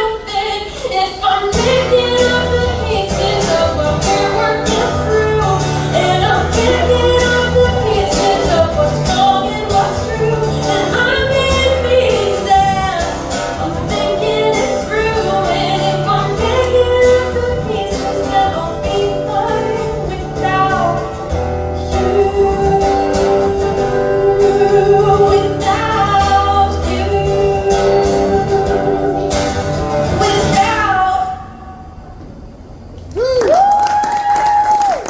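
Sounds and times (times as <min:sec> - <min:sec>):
person singing long sliding notes: 0:00.0 - 0:32.2.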